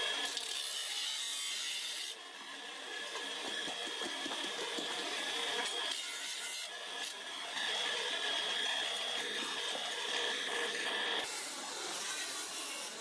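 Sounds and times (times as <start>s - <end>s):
bench grinder whining: 0.0s - 13.0s.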